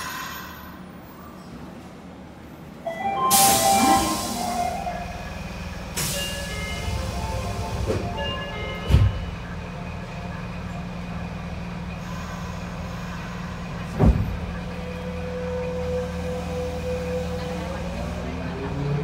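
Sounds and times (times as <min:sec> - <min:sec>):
train equipment humming: 0:00.0 - 0:18.8.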